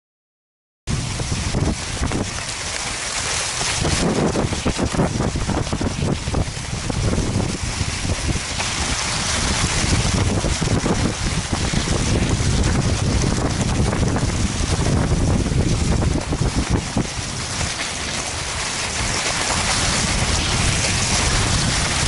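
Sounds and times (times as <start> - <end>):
wind buffeting microphone: 0.9 - 22.0
skis and poles scraping snow: 1.7 - 6.1, 7.6 - 22.0.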